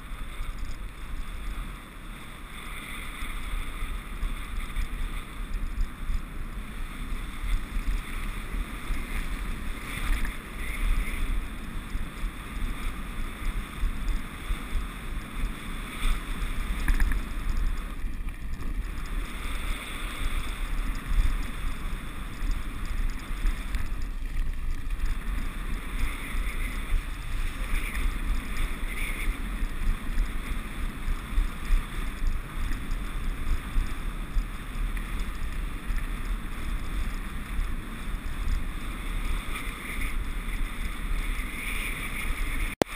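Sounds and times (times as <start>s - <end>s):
bike tyres rumbling: 0.0s - 42.9s
wind buffeting microphone: 0.0s - 42.9s.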